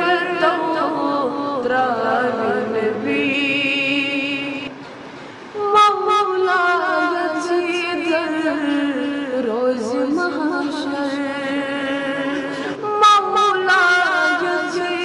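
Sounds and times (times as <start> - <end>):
boy singing into a microphone: 0.0 - 4.7, 5.6 - 15.0.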